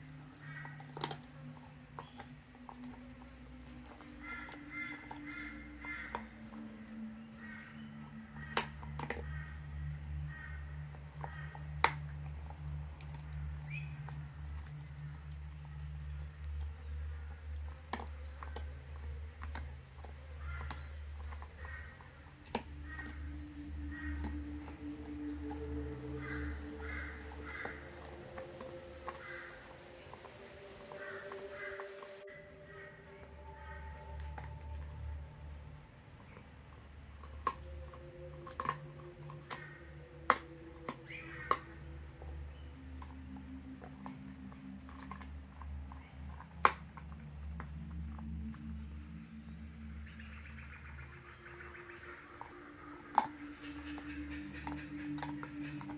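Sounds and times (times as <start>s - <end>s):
dog gnawing a bone: 0.0s - 50.0s, 51.9s - 55.9s.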